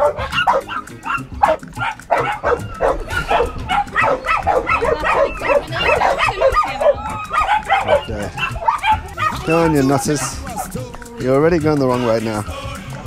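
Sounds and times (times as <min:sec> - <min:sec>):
many dogs barking: 0:00.0 - 0:10.9.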